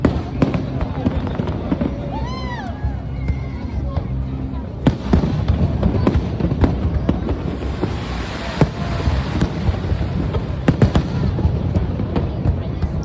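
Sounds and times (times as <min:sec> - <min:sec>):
fireworks rumble of bursts: 0:00.0 - 0:13.0
fireworks sharp bangs: 0:00.0 - 0:13.0.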